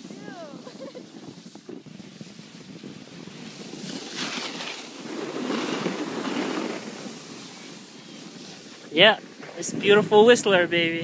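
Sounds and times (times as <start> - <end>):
ski edges scraping packed snow: 0.0 - 10.8
wind buffeting microphone: 0.0 - 11.0.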